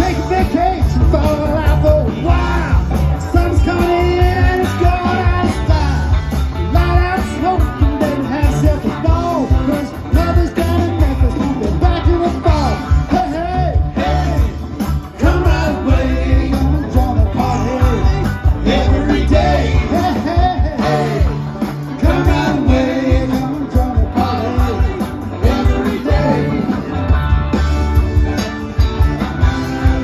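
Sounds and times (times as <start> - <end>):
person singing lead vocal: 0.0 - 27.1
live rock band playing: 0.0 - 30.0.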